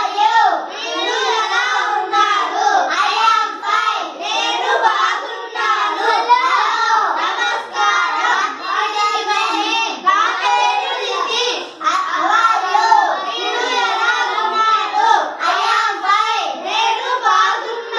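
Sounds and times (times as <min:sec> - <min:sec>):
children singing together: 0:00.0 - 0:17.9.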